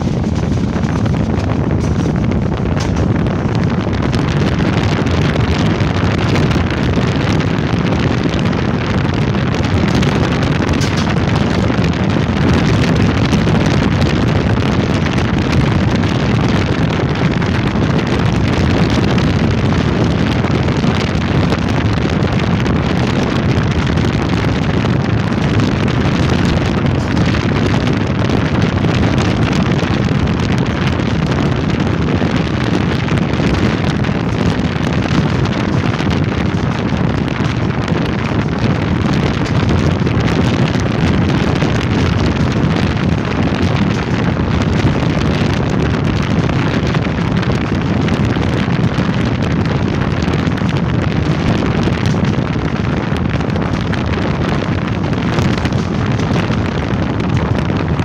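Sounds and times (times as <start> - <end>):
train rumbling at speed: 0.0 - 58.0
wind buffeting microphone: 0.0 - 58.0.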